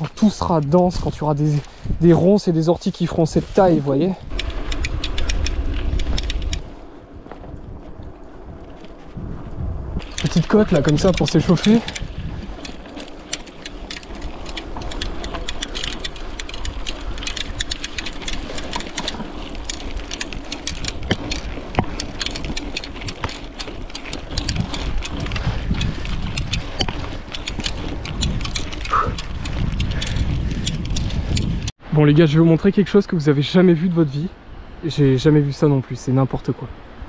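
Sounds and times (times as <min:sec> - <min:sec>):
bicycle clicks and rattles: 0:00.0 - 0:31.7
wind rumble on microphone: 0:00.0 - 0:33.1.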